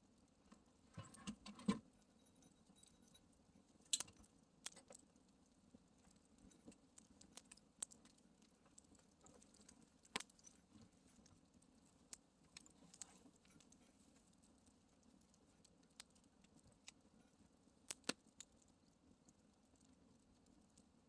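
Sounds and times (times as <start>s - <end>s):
campfire crackling: 3.8s - 21.0s.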